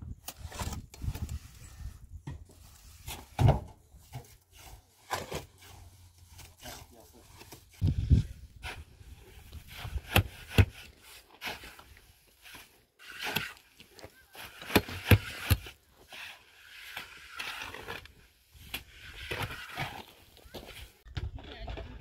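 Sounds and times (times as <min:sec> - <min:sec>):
rough scraping: 0:00.2 - 0:21.0.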